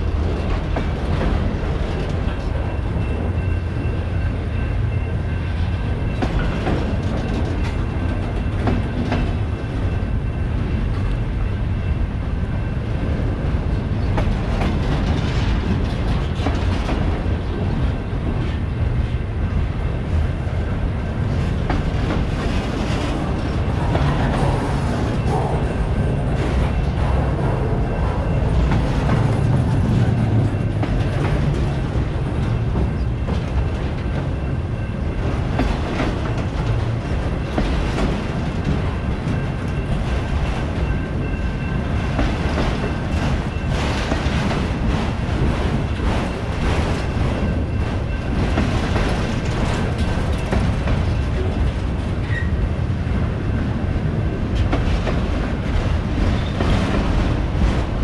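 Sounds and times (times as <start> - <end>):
freight train rumble: 0.0 - 58.0.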